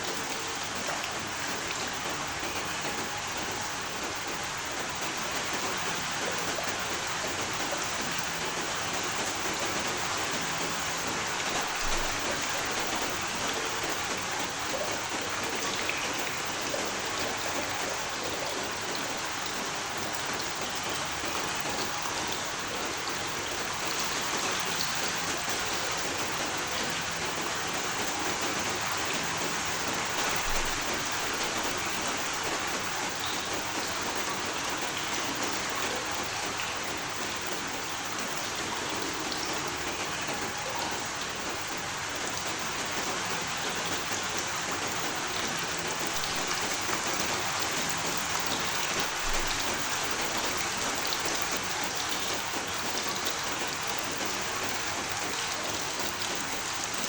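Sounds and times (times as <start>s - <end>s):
rain pattering on surfaces: 0.0s - 57.0s.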